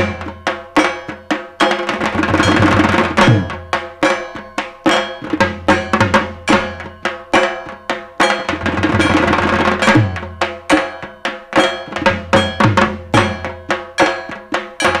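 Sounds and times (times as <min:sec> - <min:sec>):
barrel drum played with sticks: 0:00.0 - 0:15.0.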